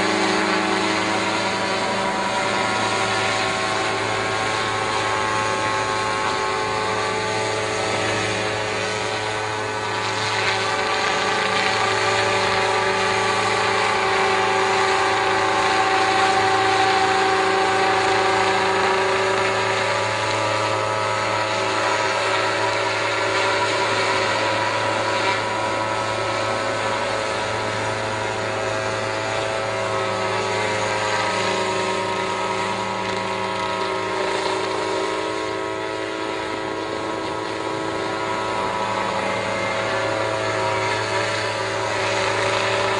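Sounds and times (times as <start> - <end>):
motor humming and whining: 0.0 - 42.9.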